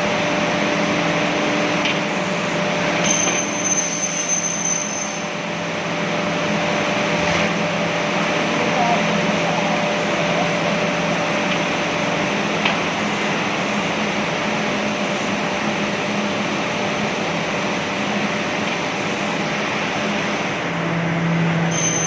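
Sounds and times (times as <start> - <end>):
furnace machinery drone: 0.0 - 22.0.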